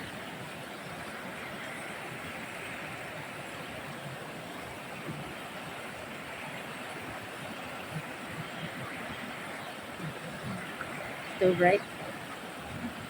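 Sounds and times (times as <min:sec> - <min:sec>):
mountain stream flowing over stones: 0:00.0 - 0:13.0.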